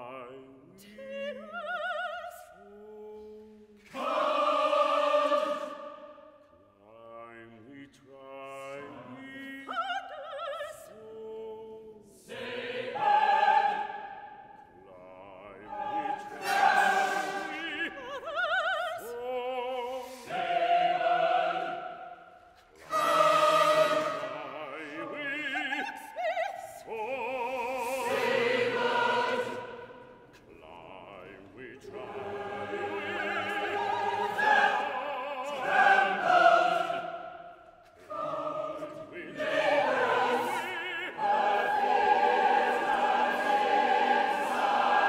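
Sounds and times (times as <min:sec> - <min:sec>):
soloists singing with vibrato: 0:00.0 - 0:45.0.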